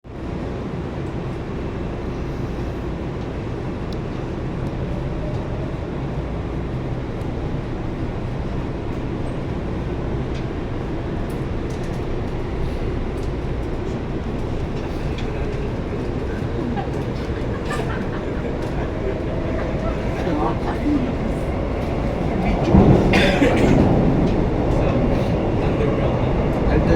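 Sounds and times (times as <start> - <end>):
train rumbling inside carriage: 0.0 - 26.9.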